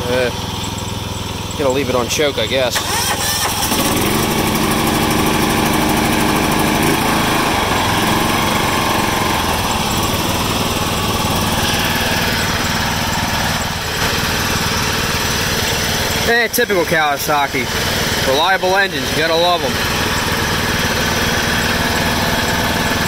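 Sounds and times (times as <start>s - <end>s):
lawn tractor engine running: 0.0s - 23.0s.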